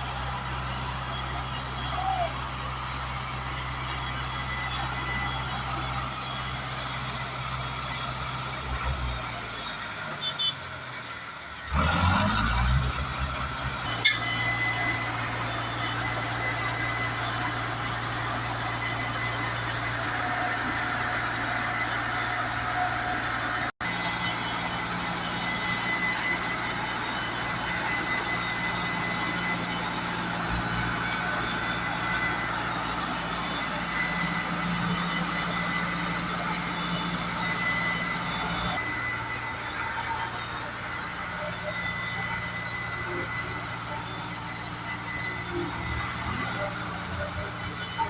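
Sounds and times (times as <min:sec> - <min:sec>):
heavy machinery engine running: 0:00.0 - 0:10.2, 0:10.8 - 0:48.0.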